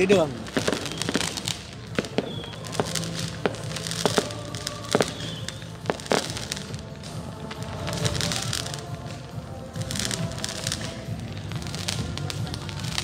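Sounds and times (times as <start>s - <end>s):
fireworks bangs and crackles: 0.0s - 13.0s
music with held tones: 0.0s - 13.0s.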